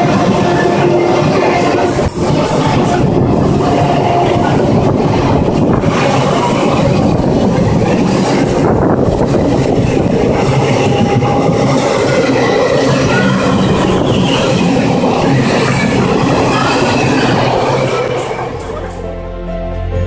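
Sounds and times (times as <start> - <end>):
train wheels rumbling and rattling: 0.0 - 19.1.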